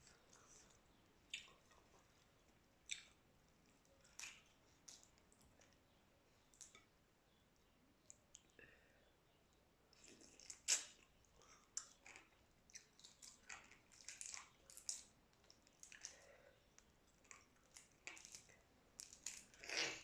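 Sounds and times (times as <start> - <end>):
person chewing with wet smacks: 0.0 - 6.9, 9.9 - 20.0.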